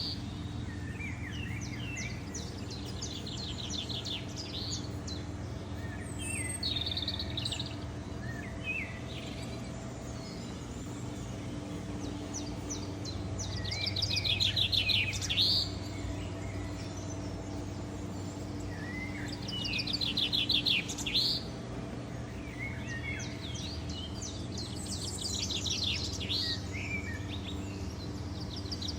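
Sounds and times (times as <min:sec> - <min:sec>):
songbirds trilling: 0:00.0 - 0:28.9
steady low hum: 0:00.0 - 0:28.9.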